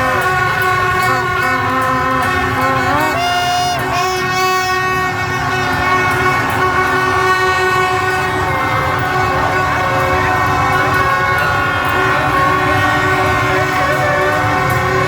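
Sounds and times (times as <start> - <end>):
motorbike horns blaring: 0.0 - 15.0
motorbike traffic din: 0.0 - 15.0
plastic horns blaring: 0.0 - 15.0.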